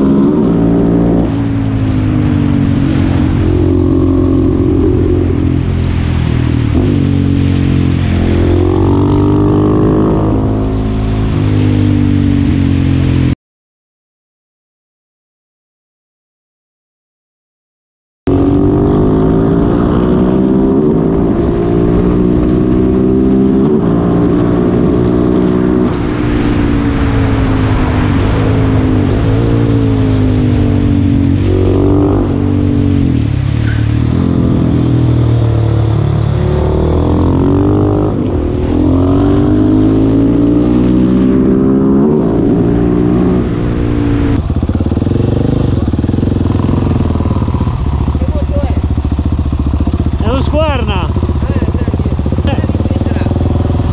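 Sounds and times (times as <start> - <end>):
motorcycle engine accelerating: 0.0 - 13.4, 18.3 - 53.9.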